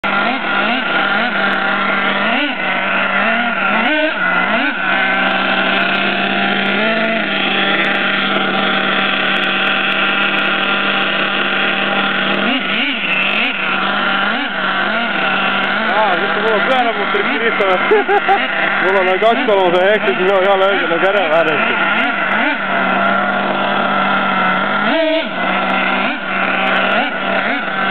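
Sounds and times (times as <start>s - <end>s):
engine throttle blips: 0.0s - 27.9s
model engine idling: 0.0s - 27.9s.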